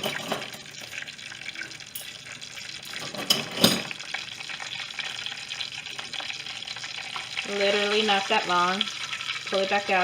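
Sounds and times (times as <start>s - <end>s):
tortilla sizzling in hot oil: 0.0s - 10.0s.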